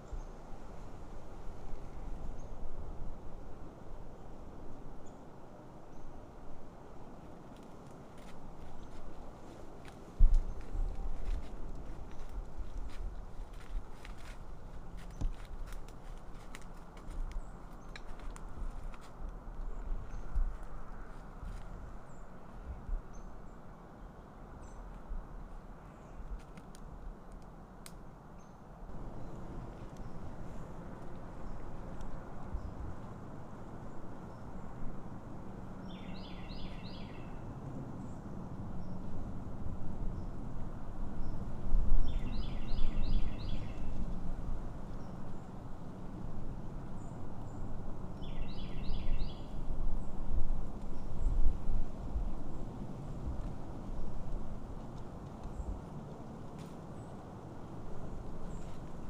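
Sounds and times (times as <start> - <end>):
wind gusts rumbling on microphone: 0.0 - 27.4, 28.9 - 59.0.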